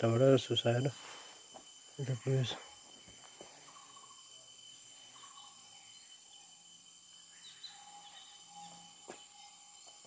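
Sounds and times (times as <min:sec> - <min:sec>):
faint high insect trill: 0:00.0 - 0:10.0
faint bird chirps: 0:01.8 - 0:10.0.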